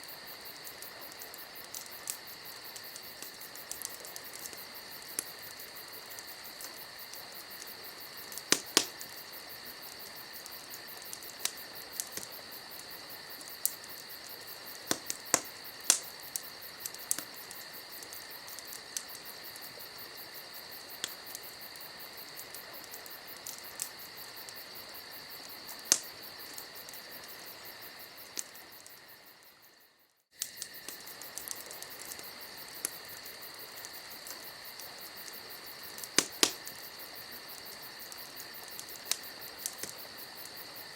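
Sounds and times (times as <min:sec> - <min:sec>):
crickets chirping: 0:00.0 - 0:40.9
wood fire crackling and popping: 0:00.0 - 0:40.9.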